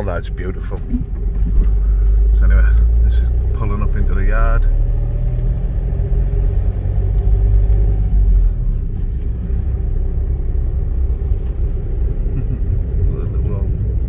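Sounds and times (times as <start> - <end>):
vehicle engine and tyres rumbling: 0.0 - 14.0.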